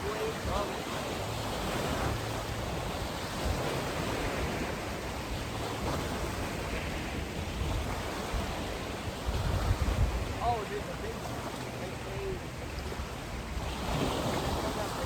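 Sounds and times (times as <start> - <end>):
lapping lake water: 0.0 - 15.0
wind buffeting microphone: 0.0 - 15.0.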